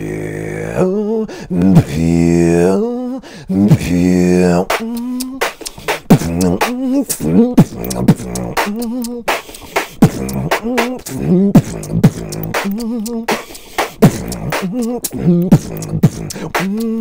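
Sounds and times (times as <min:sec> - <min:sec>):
person beatboxing: 0:01.5 - 0:02.8, 0:03.5 - 0:17.0.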